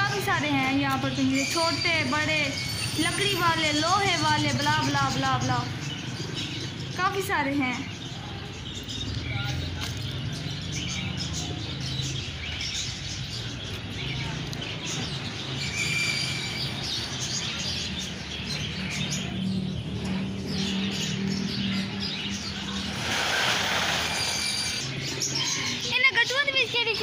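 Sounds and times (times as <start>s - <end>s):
caged birds chirping: 0.0s - 27.0s.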